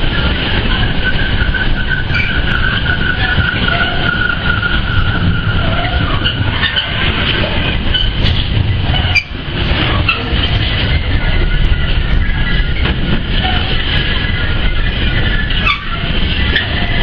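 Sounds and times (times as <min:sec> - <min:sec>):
train wheels rumbling on rails: 0:00.0 - 0:17.0
high-pitched wheel squeal: 0:00.1 - 0:17.0.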